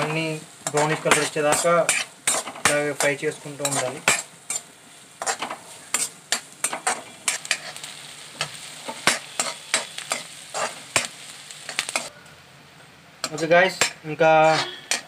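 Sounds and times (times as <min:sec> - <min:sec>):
faint sizzle: 0:00.0 - 0:15.0
metal spoon scraping a pan: 0:00.6 - 0:11.1, 0:13.2 - 0:15.0.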